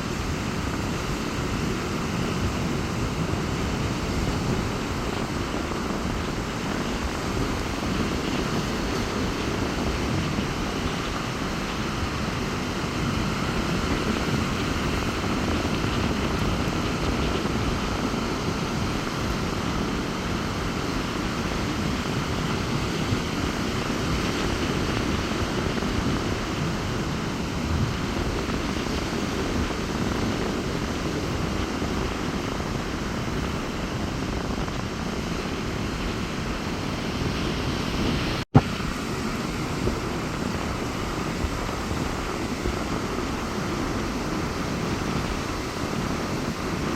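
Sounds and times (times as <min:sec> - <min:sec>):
sea surf rushing onto beach: 0:00.0 - 0:46.9
wind buffeting microphone: 0:00.0 - 0:46.9.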